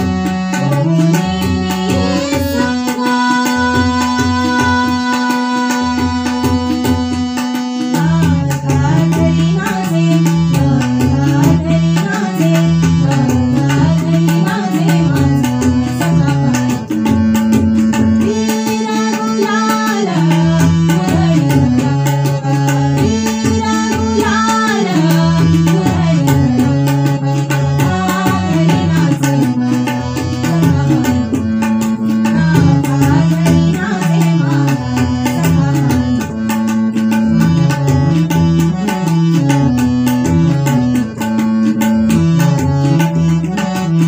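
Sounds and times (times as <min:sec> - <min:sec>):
tabla: 0:00.0 - 0:44.0
woman singing devotional song: 0:00.0 - 0:44.0.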